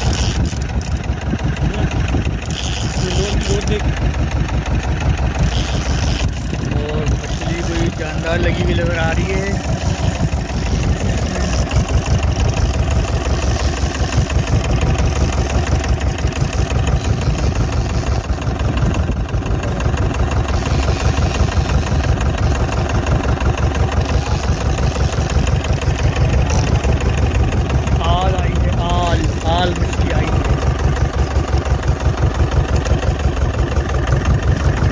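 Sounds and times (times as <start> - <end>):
boat engine throbbing: 0.0 - 34.9.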